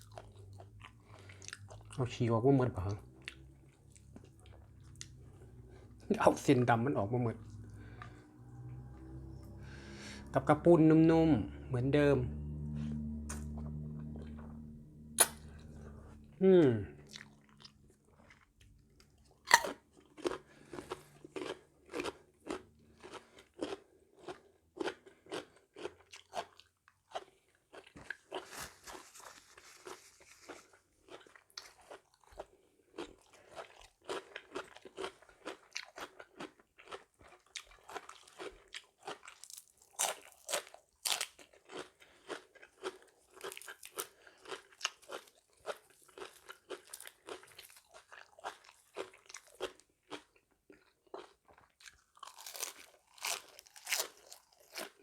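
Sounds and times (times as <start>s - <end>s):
person chewing crunchy food: 0.0s - 10.4s, 12.6s - 55.0s.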